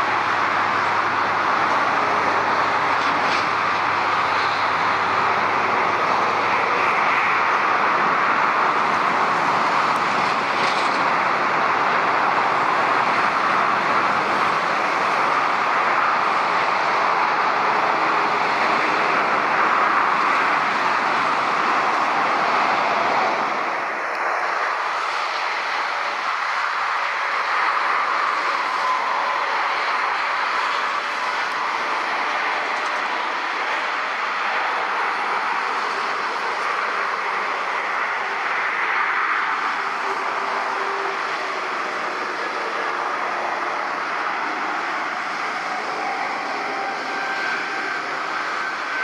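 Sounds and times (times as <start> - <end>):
traffic and airport roar: 0.0 - 49.0.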